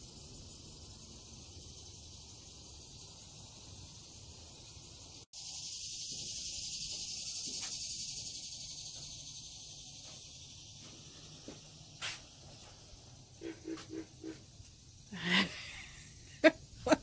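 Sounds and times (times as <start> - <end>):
insects calling: 0.0 - 17.0.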